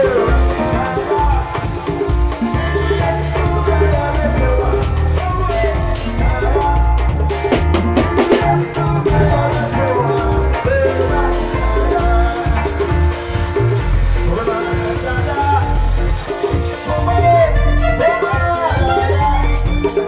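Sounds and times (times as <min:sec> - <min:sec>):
drum hits: 0:00.0 - 0:19.9
live gospel band playing: 0:00.0 - 0:20.0.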